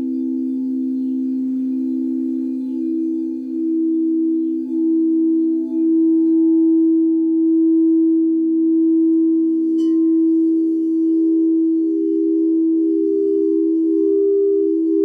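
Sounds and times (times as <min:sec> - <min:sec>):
singing bowls ringing: 0:00.0 - 0:06.6, 0:09.2 - 0:15.0.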